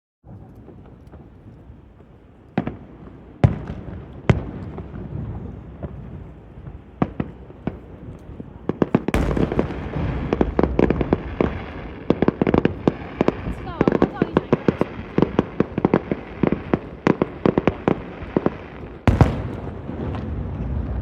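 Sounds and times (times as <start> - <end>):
firework bangs: 0.2 - 21.0
crackling firework bursts: 0.3 - 21.0.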